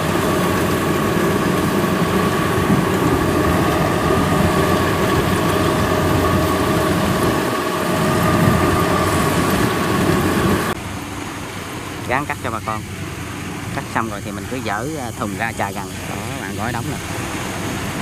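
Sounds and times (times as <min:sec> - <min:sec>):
diesel engine drone: 0:00.0 - 0:18.0
high machinery whine: 0:00.0 - 0:18.0.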